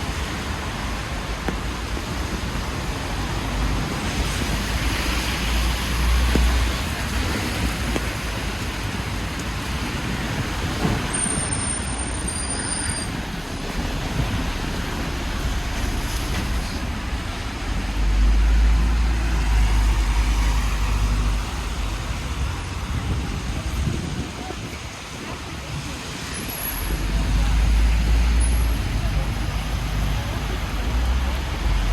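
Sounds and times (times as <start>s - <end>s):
heavy vehicle passing rumble: 0.0s - 31.9s
traffic on wet road: 0.0s - 31.9s.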